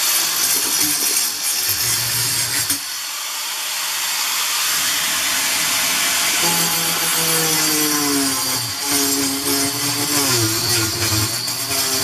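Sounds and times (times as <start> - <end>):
power tool cutting into log: 0.0 - 12.0.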